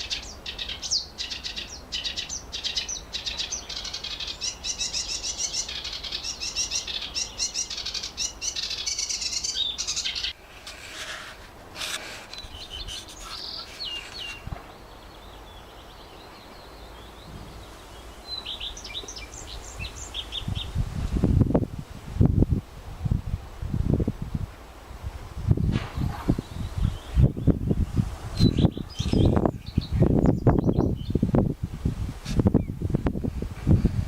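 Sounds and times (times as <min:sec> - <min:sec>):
songbirds chirping and trilling: 0:00.0 - 0:21.6, 0:24.6 - 0:31.6, 0:32.2 - 0:34.0.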